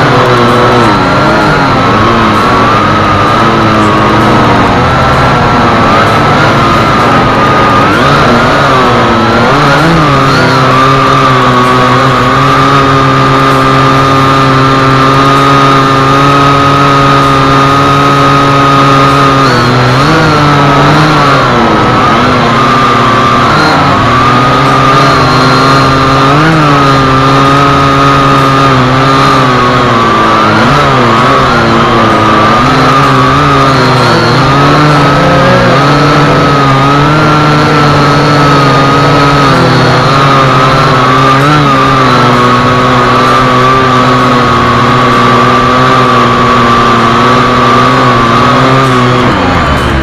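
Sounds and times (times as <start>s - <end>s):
drone motors whining: 0.0s - 50.0s.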